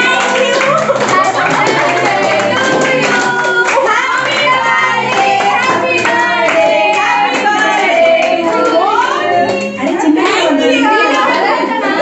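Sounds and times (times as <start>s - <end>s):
people clapping along: 0.0s - 12.0s
people singing: 0.0s - 12.0s.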